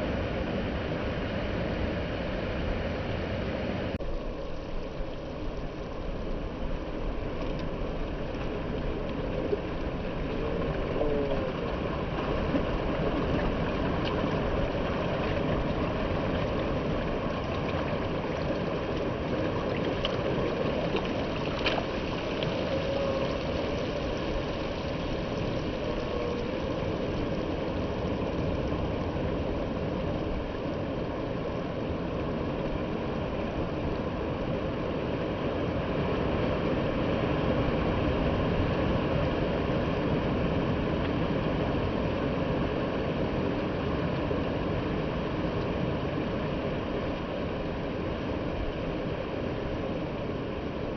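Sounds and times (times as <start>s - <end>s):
boat engine hum: 0.0s - 50.9s
rushing water: 0.0s - 50.9s.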